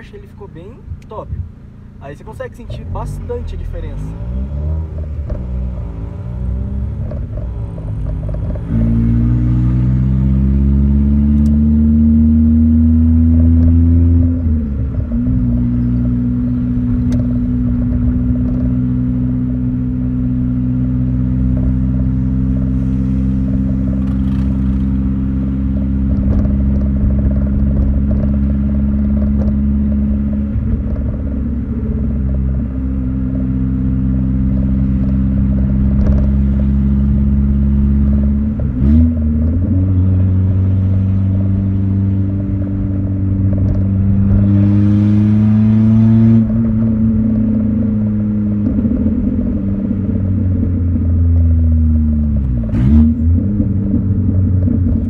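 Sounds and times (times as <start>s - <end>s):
car engine through exhaust: 0.0s - 55.0s.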